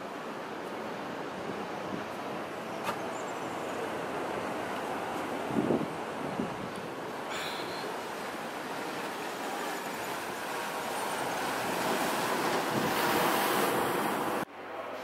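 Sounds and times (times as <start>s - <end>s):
ocean waves breaking: 0.0s - 14.5s.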